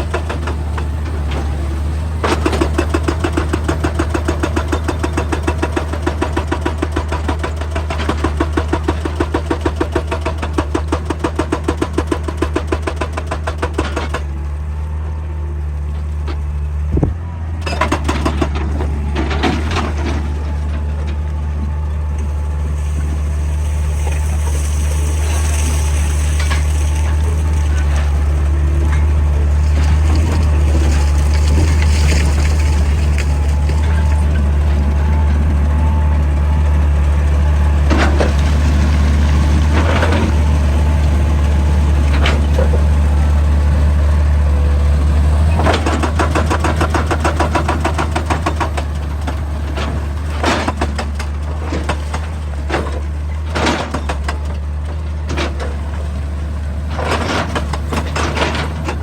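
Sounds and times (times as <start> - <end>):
excavator diesel engine drone: 0.0 - 59.0.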